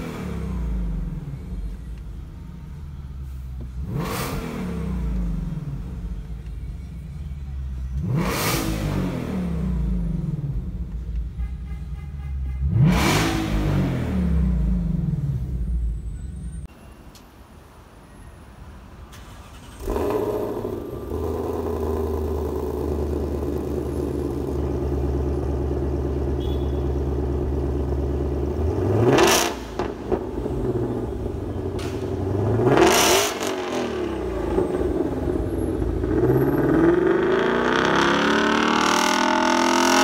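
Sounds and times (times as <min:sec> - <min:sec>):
car engine idling and revving: 0:00.0 - 0:16.7, 0:19.1 - 0:40.0.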